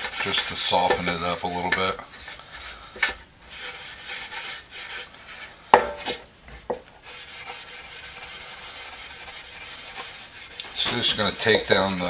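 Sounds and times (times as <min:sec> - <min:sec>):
steel wool rubbing on paint: 0:00.0 - 0:06.2, 0:07.0 - 0:12.0.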